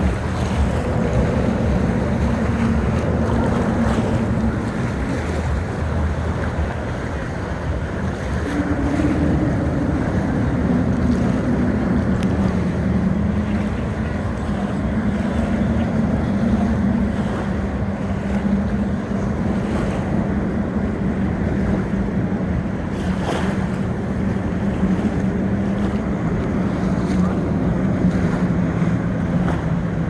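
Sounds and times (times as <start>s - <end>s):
boat engine humming: 0.0s - 30.0s
waves washing: 0.0s - 30.0s
wind buffeting microphone: 0.0s - 30.0s.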